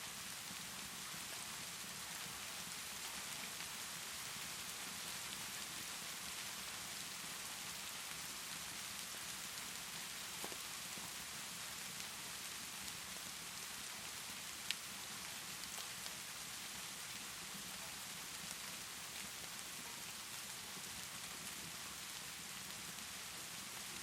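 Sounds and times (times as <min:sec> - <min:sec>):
steady rainfall: 0:00.0 - 0:24.0
wood fire crackling: 0:00.2 - 0:24.0.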